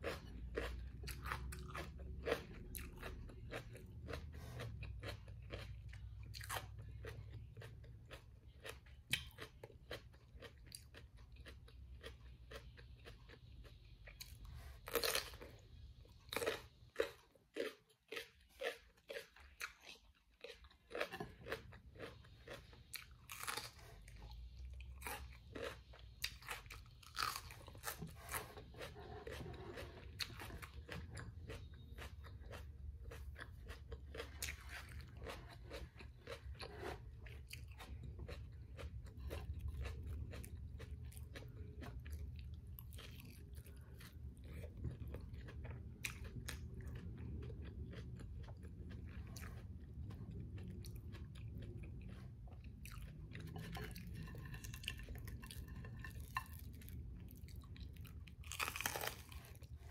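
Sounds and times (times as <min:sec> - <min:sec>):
crunchy chewing of fried food: 0:00.0 - 0:59.9.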